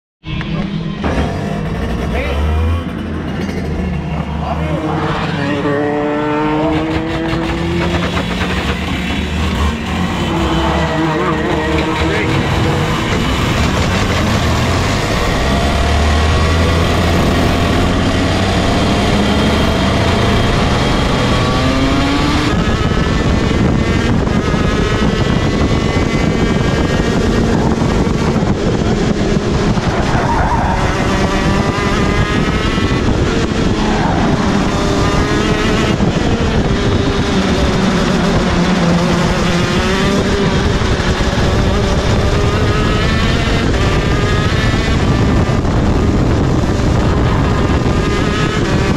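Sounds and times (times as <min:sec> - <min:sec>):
two-stroke kart engine revving: 0:00.5 - 0:48.9.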